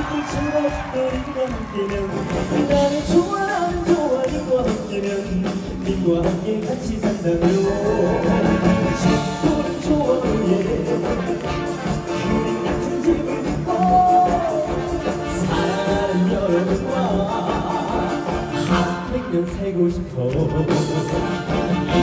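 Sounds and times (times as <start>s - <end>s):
military band playing upbeat song: 0.0s - 22.0s
steady drum beat: 0.0s - 22.0s.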